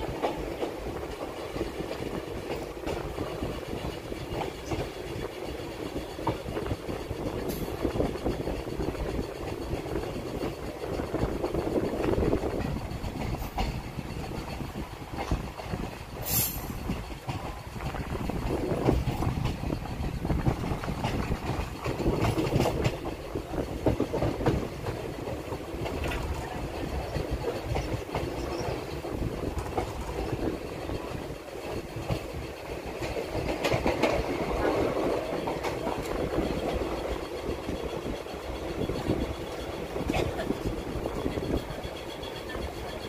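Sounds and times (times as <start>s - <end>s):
train wheels rumbling: 0.0s - 43.0s.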